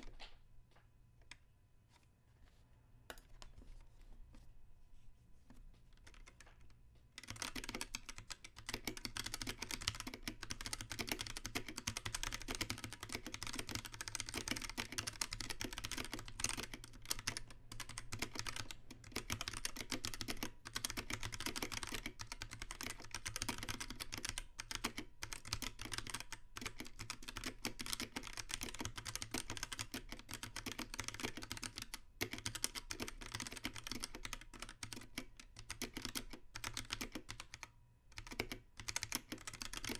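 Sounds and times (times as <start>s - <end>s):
fast typing on mechanical keyboard: 6.0s - 39.9s.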